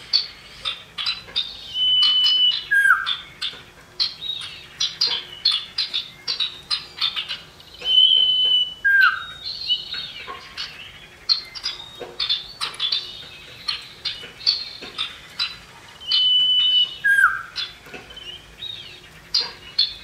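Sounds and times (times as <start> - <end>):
bird chips and chattering: 0.0 - 20.0
bird whistling: 0.2 - 20.0.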